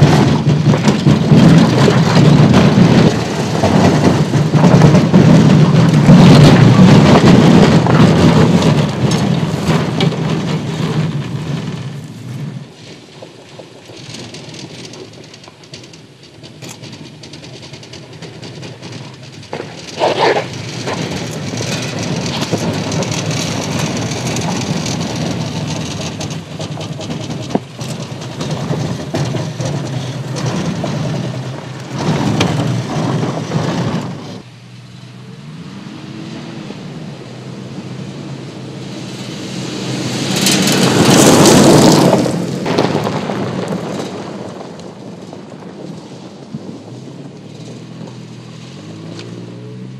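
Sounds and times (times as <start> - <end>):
pickup truck engine: 0.0 - 49.9
truck driving on gravel: 0.0 - 49.9.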